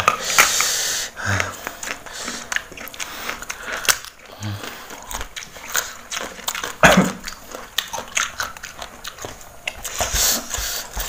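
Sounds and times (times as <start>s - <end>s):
biting and chewing crisp melon: 0.0s - 11.0s.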